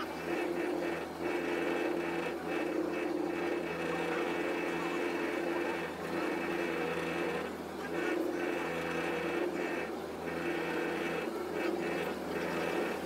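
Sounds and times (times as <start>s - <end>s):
fast mechanical engine whir: 0.0s - 13.0s.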